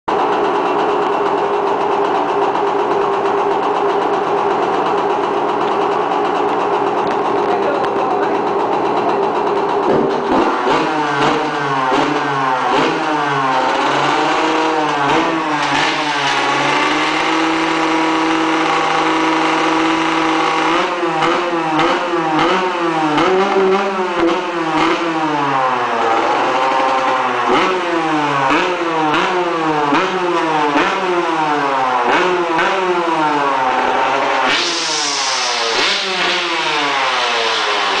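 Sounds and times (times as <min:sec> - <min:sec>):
motocross engine revving: 0:00.1 - 0:38.0.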